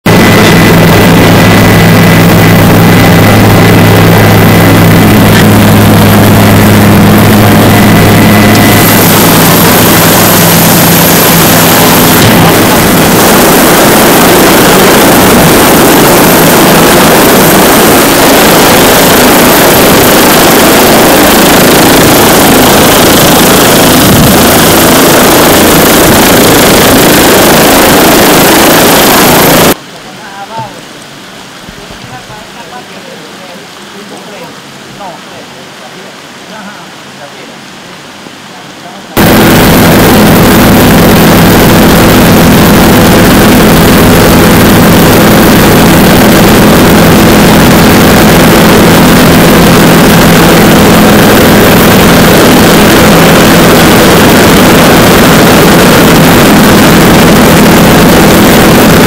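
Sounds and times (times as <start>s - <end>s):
helicopter engine and rotor: 0.1s - 29.8s, 39.2s - 59.0s.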